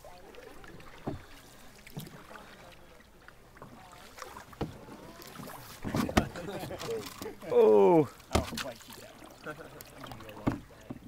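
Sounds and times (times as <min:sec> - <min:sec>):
paddle strokes in water: 0:00.0 - 0:11.0
paddles knocking canoe hull: 0:00.0 - 0:11.0.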